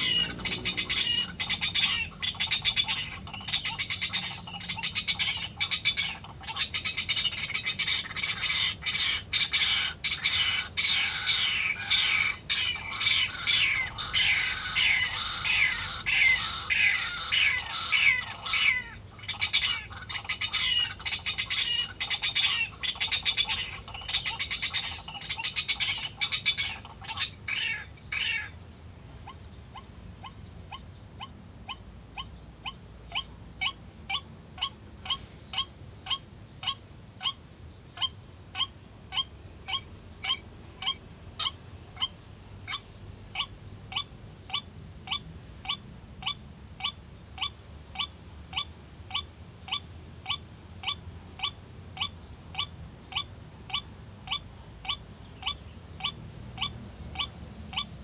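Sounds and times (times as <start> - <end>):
waterhen calling harshly: 0.0 - 28.6, 29.2 - 37.4, 38.0 - 57.9.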